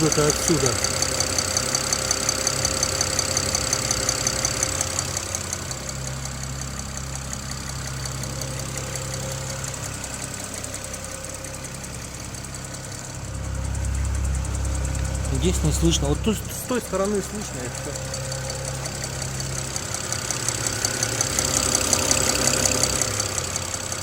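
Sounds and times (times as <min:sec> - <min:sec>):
car engine idling: 0:00.0 - 0:24.0
rapid regular ticking: 0:00.0 - 0:24.0.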